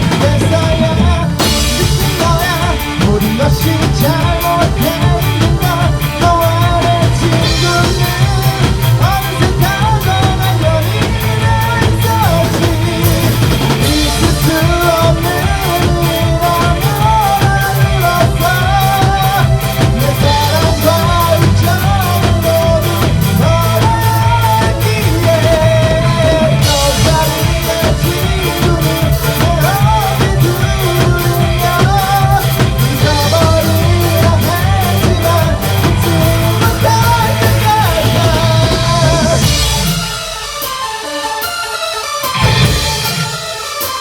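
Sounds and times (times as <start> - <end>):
drum kit: 0.0 - 44.0
electronic rock band playing: 0.0 - 44.0
heavy bass line: 0.0 - 44.0.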